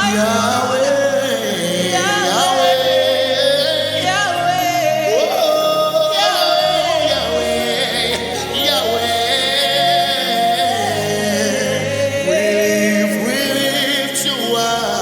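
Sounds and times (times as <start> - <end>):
person singing long wavering notes: 0.0 - 15.0
sustained accompaniment: 0.0 - 15.0.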